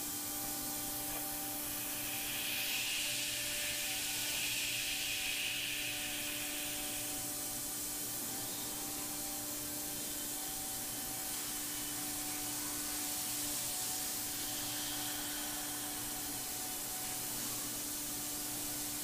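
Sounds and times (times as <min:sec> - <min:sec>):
compressed air hiss: 0:00.0 - 0:19.0.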